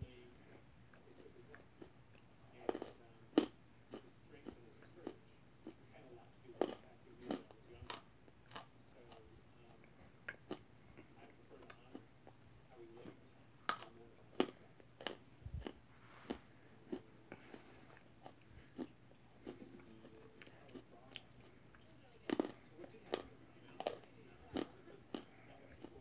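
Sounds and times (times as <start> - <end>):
person chewing chalk crunching: 0.9 - 9.2, 13.0 - 26.0.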